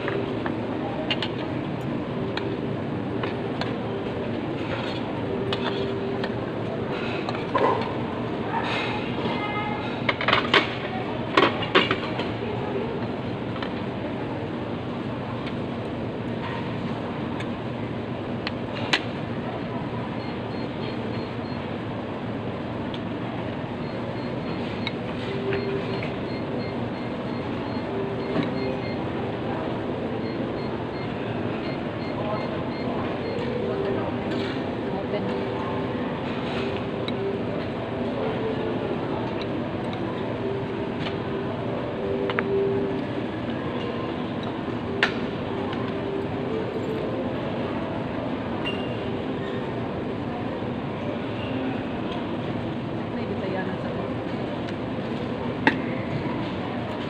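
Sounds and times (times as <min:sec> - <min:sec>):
restaurant background din: 0:00.0 - 0:57.0.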